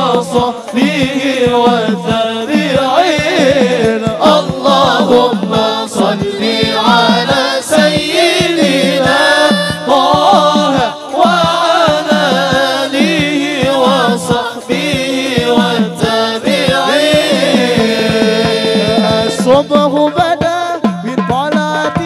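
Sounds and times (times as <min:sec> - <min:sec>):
fast hand drum beats: 0:00.0 - 0:22.0
men singing together: 0:00.0 - 0:22.0.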